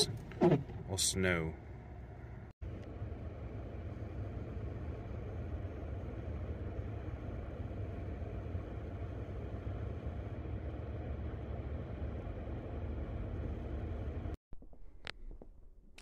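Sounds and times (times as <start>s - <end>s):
road and engine rumble inside car: 0.0s - 14.4s.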